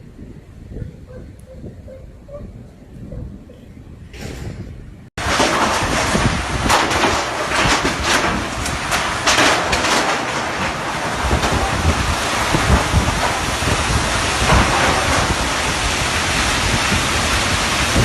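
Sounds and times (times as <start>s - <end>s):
strong storm wind gusting: 0.0s - 18.0s
wind buffeting on microphone: 0.0s - 18.0s.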